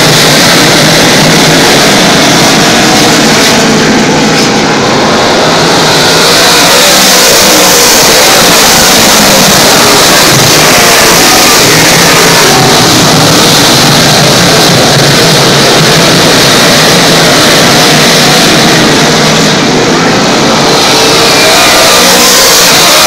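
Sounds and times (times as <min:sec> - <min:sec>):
race car engines at full throttle: 0:00.0 - 0:23.0.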